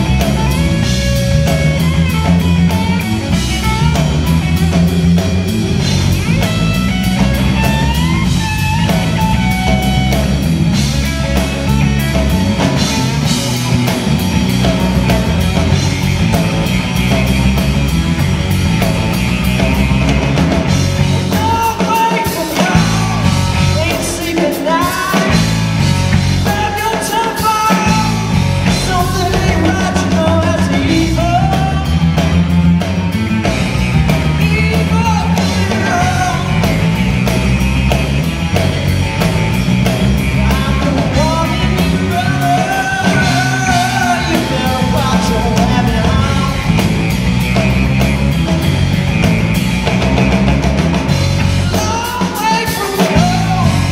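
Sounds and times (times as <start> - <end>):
drum kit: 0.0 - 53.9
electric bass: 0.0 - 53.9
electric guitar: 0.0 - 53.9
wavering guitar lead line: 0.0 - 53.9.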